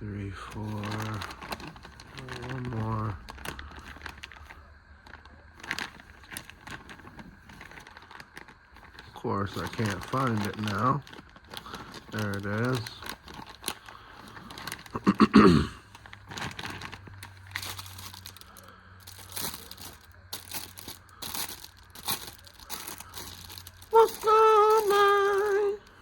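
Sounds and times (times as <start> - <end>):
plastic packaging crinkling: 0.4 - 26.0.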